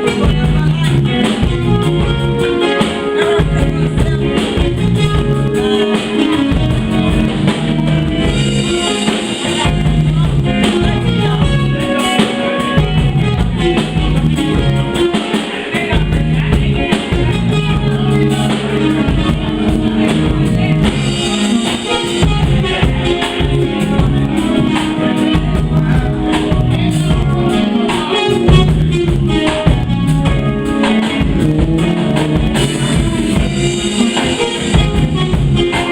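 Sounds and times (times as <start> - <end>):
live band playing: 0.0 - 35.9.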